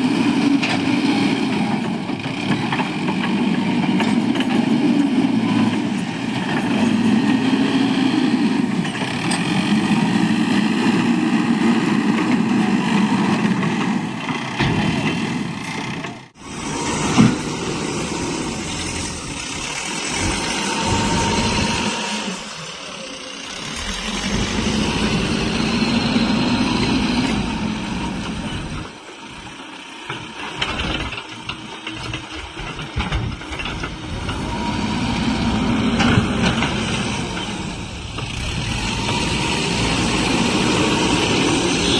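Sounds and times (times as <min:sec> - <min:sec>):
diesel engine under load: 0:00.0 - 0:41.9.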